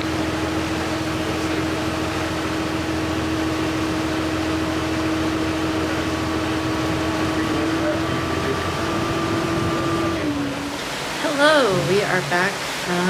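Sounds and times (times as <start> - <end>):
van engine and blower hum: 0.0 - 13.0.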